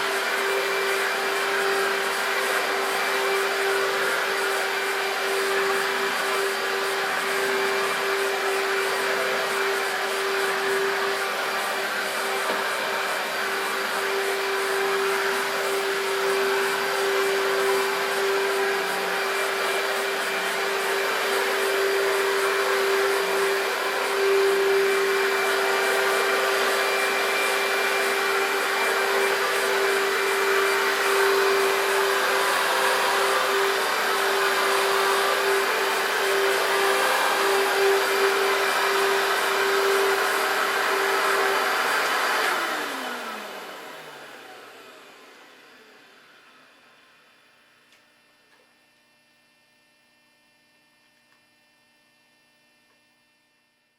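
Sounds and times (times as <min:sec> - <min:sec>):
vacuum cleaner motor hum: 0:00.0 - 0:49.5.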